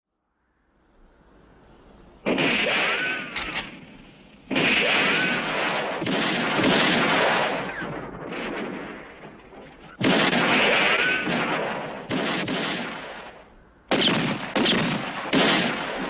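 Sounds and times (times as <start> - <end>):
echoing gunshots: 2.2 - 16.0
ricochet whines: 2.2 - 16.0.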